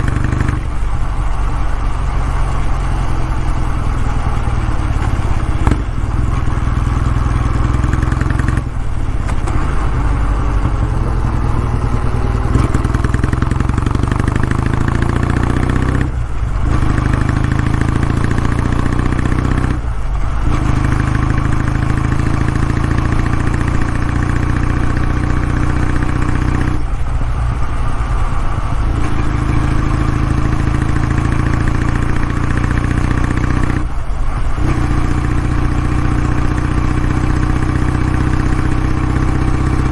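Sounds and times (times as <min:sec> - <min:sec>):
motorcycle engine exhaust note: 0:00.0 - 0:39.9.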